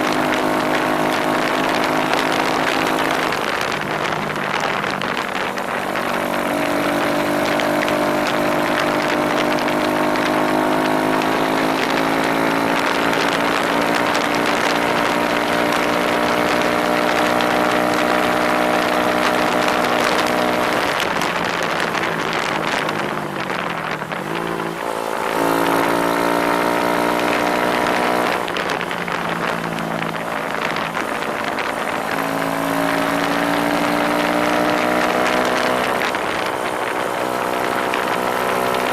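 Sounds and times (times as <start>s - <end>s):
small motorbike engine running: 0.0s - 38.9s
wind rushing past microphone: 0.0s - 38.9s.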